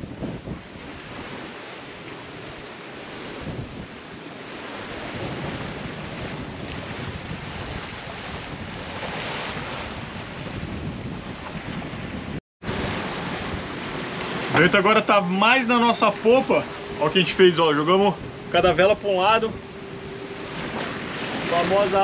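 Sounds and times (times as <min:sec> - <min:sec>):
water rushing past boat hull: 0:00.0 - 0:22.0
wind buffeting microphone: 0:00.0 - 0:22.0.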